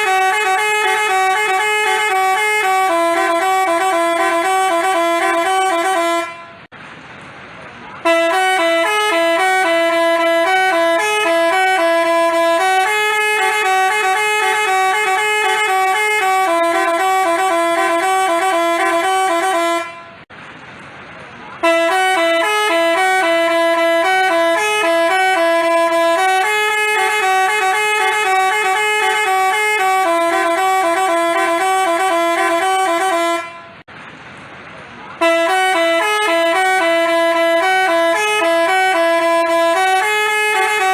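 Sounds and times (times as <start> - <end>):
musical bus horn tune: 0.0 - 6.7, 8.0 - 20.3, 21.6 - 33.9, 35.2 - 40.9.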